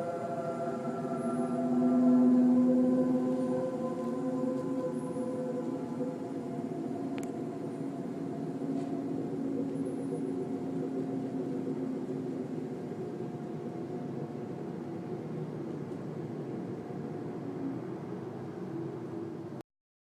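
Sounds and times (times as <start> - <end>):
low droning hum: 0.0 - 19.6.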